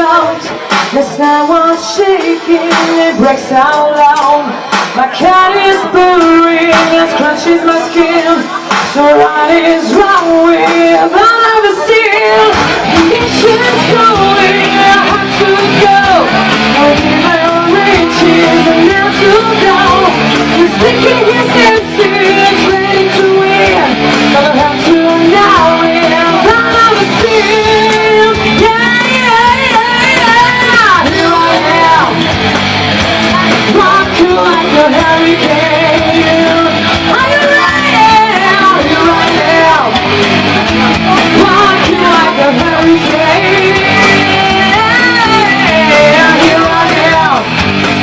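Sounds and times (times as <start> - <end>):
live rock band playing: 0.0 - 48.0
lead electric guitar bending notes: 5.4 - 48.0.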